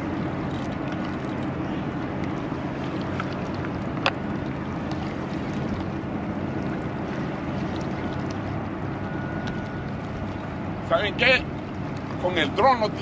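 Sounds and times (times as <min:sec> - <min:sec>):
low drone: 0:00.0 - 0:12.2.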